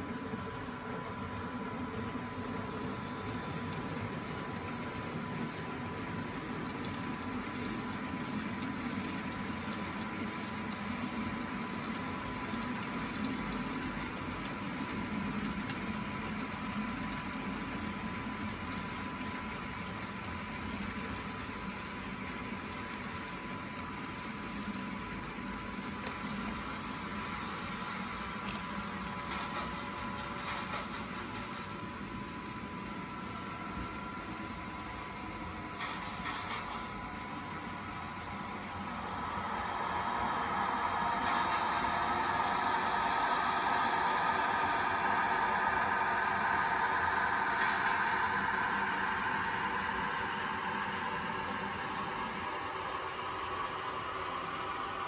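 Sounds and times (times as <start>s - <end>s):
locomotive model hum and hiss: 0.0s - 55.0s
model train running past: 0.0s - 55.0s.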